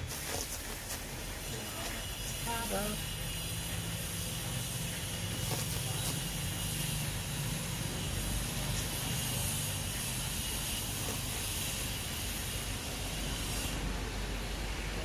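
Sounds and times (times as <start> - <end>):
burner hissing: 0.0 - 15.0.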